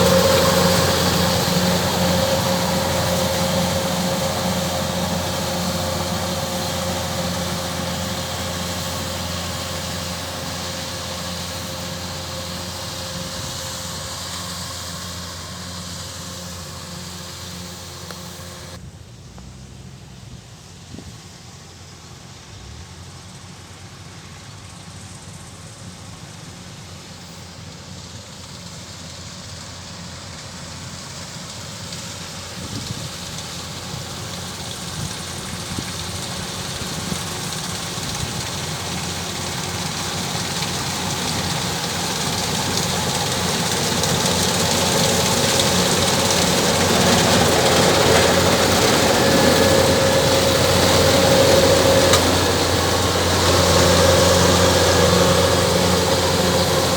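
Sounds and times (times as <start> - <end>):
combine harvester diesel engine: 0.0 - 56.9.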